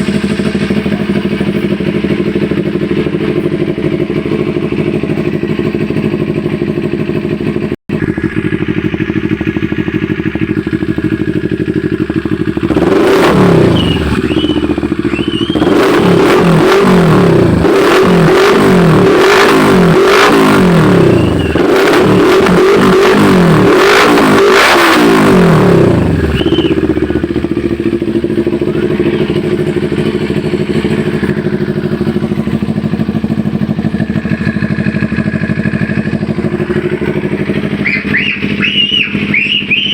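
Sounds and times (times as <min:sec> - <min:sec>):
motorcycle idling: 0:00.0 - 0:39.9
motorcycle throttle blips: 0:00.0 - 0:39.9.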